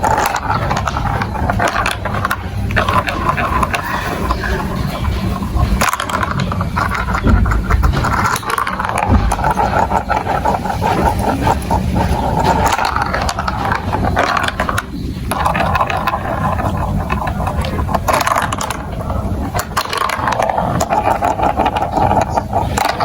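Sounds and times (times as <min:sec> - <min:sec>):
marbles rolling down a plastic run: 0:00.0 - 0:23.0.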